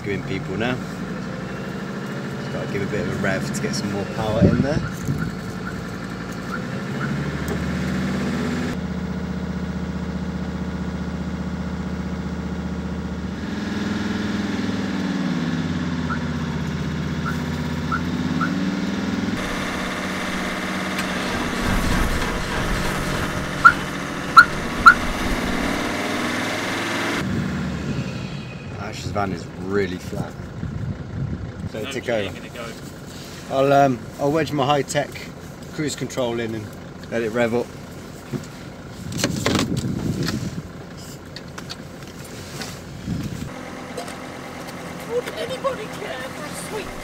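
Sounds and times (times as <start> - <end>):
van engine running at raised revs: 0.0 - 47.0.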